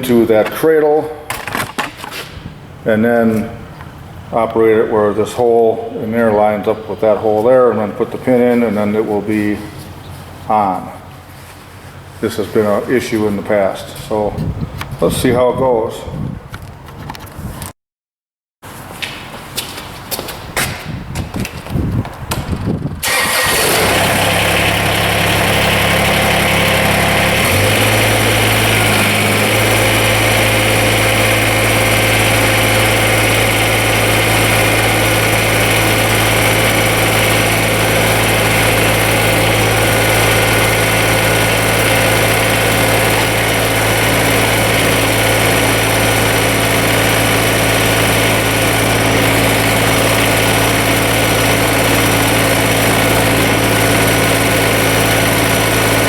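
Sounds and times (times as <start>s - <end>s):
diesel tractor engine: 0.0s - 14.9s, 21.9s - 56.0s.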